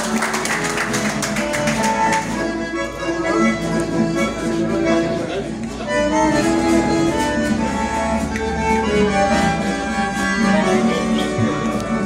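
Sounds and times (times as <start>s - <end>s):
accordion melody: 0.0s - 12.0s
guitar: 0.0s - 12.0s.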